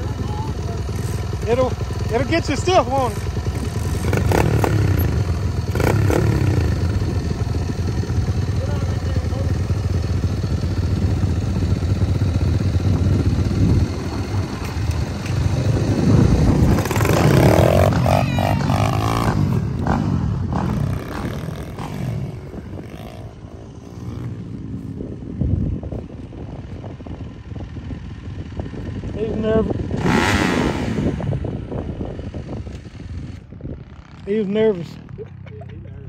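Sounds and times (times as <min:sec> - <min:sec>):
dirt bike engine idling and revving: 0:00.0 - 0:36.0.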